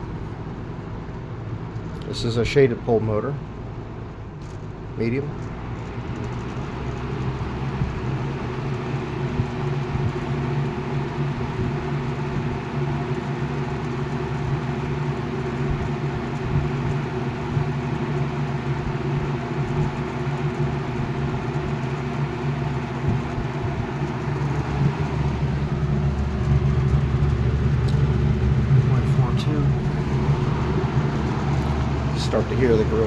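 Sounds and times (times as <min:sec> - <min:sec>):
fan motor humming with air rush: 0:00.0 - 0:33.0.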